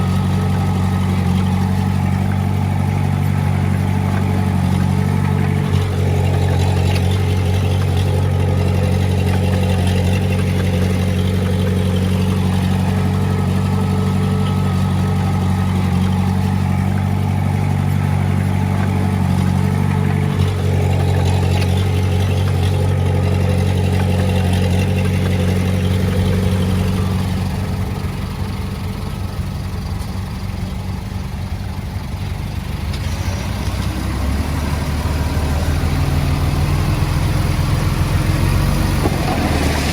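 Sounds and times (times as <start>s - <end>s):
earthmoving machinery diesel engine: 0.0s - 39.9s.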